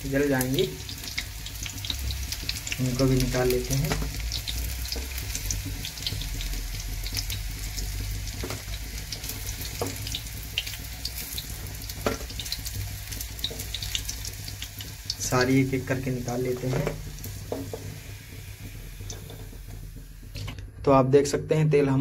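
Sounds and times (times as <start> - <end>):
food deep-frying in oil: 0.0 - 20.5.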